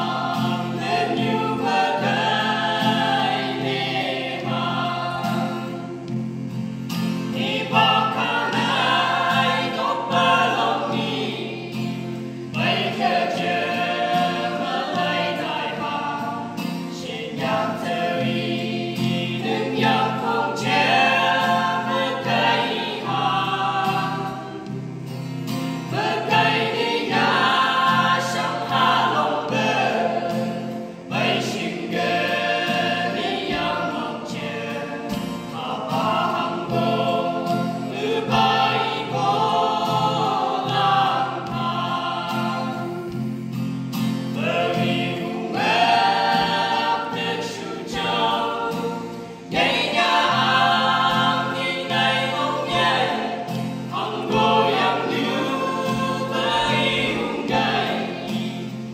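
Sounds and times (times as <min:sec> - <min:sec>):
acoustic guitar: 0:00.0 - 0:58.9
group singing in harmony: 0:00.0 - 0:58.9.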